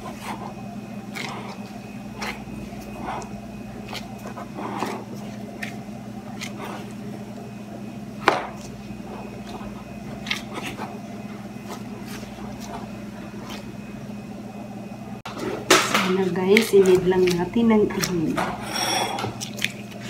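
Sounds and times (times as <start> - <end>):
dough squelching: 0.0 - 14.4, 15.2 - 20.0
steady low hum: 0.0 - 20.0.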